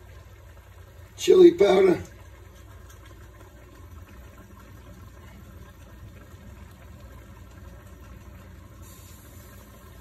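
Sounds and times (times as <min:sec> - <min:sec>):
pot simmering with bubbling hiss: 0:00.0 - 0:10.0.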